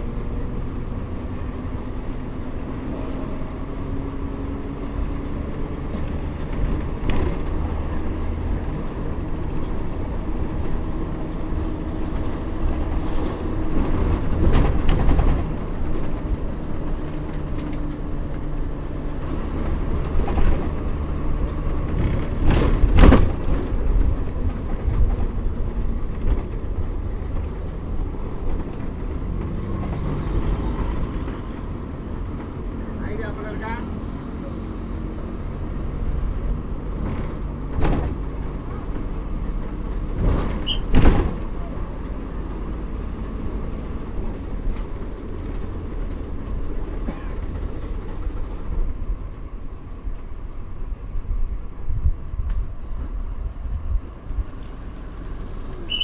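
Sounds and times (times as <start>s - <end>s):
bus engine hum: 0.0s - 56.0s
road rumble: 0.0s - 56.0s.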